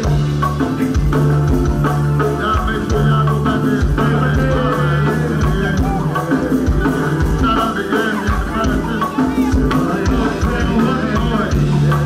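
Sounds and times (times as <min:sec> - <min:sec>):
bass: 0:00.0 - 0:12.0
driving drum beat: 0:00.0 - 0:12.0
person singing: 0:00.0 - 0:12.0.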